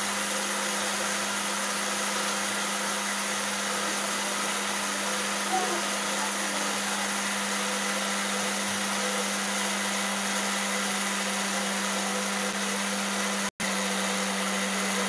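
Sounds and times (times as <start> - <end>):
electric blender whirring: 0.0 - 15.0.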